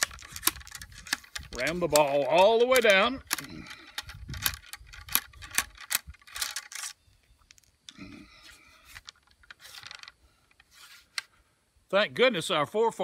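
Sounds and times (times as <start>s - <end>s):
ramrod clicking and scraping in barrel: 0.0s - 11.3s.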